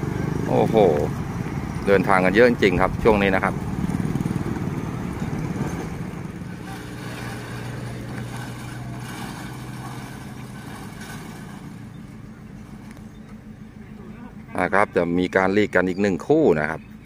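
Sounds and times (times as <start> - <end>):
diesel train engine hum: 0.0 - 17.0.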